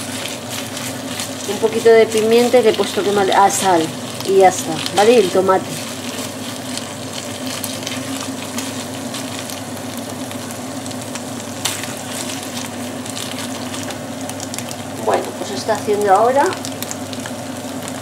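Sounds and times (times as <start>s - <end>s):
meat sizzling in a pan: 0.0s - 18.0s
steady low hum: 0.0s - 18.0s.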